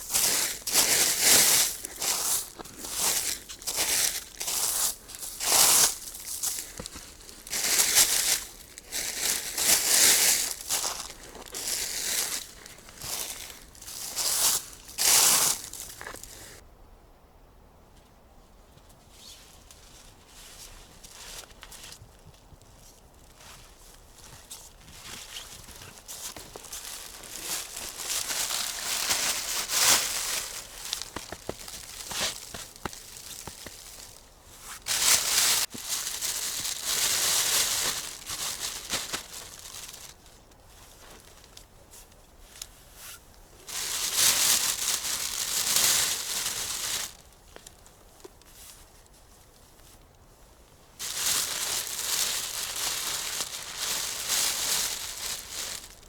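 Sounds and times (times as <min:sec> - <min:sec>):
rustling and crinkling: 0:00.0 - 0:16.6, 0:18.7 - 0:56.0.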